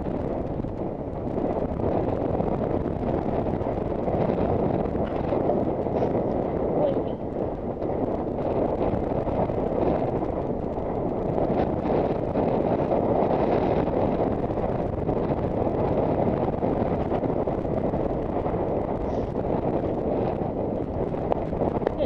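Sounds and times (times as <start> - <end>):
wind rushing on microphone: 0.0 - 22.0.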